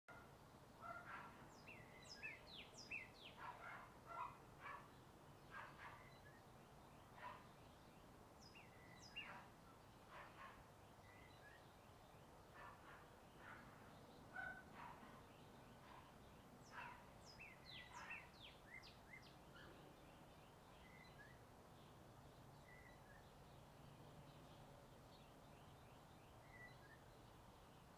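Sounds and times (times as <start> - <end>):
birds chirping: 0.1 - 27.9.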